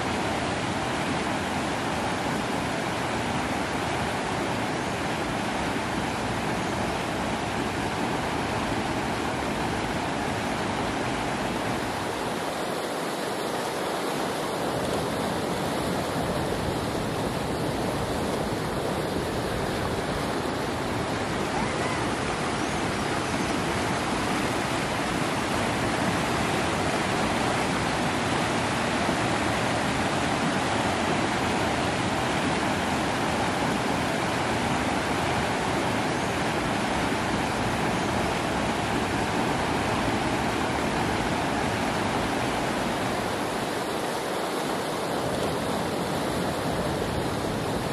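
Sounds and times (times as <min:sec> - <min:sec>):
river rushing over stones: 0:00.0 - 0:47.9.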